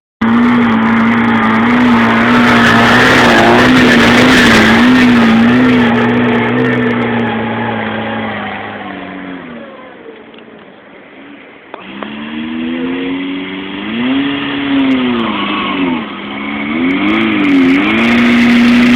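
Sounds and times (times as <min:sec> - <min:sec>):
car engine revving high: 0:00.2 - 0:10.2, 0:11.7 - 0:18.9.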